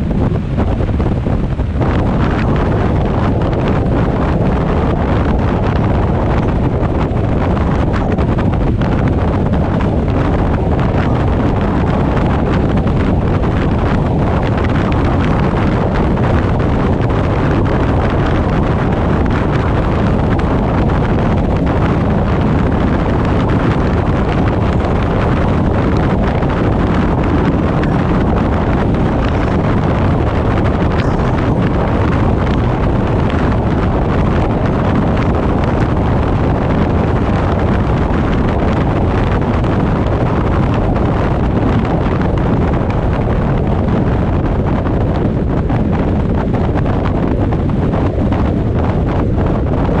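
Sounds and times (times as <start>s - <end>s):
car road and tyre noise: 0.0s - 50.0s
wind rushing over microphone: 0.0s - 50.0s.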